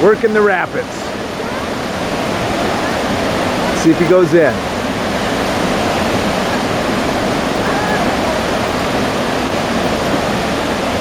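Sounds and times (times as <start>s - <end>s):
whitewater rapids rushing: 0.0s - 11.0s.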